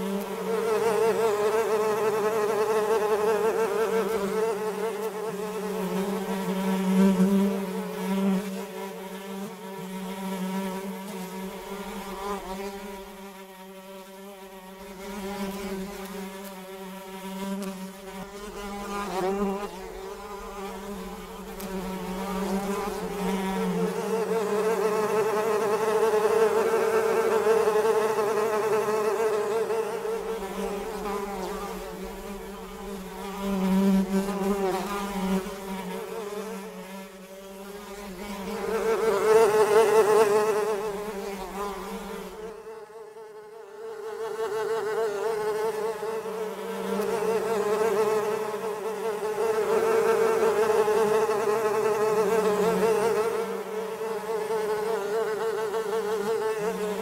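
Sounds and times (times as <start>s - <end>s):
houseflies buzzing: 0.0s - 57.0s.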